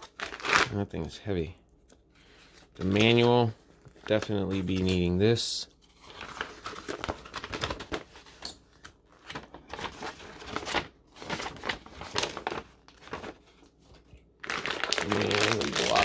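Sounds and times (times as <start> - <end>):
paper rustling and crinkling: 2.2 - 16.0.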